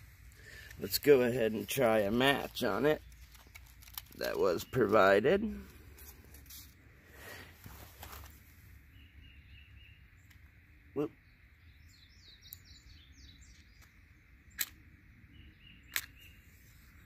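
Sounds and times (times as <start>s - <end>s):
bird chirping: 0.0s - 5.8s, 8.8s - 17.0s.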